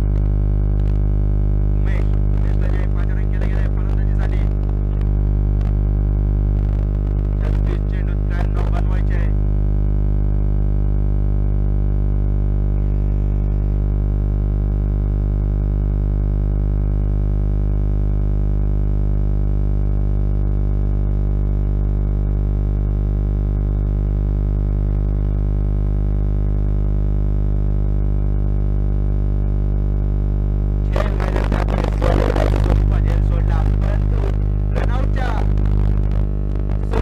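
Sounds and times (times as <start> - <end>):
loud electrical buzz: 0.0 - 37.0.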